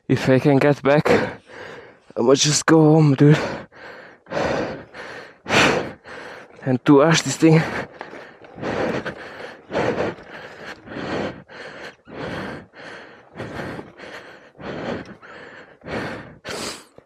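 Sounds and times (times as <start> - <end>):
person panting hard: 1.0 - 2.2, 3.2 - 17.0.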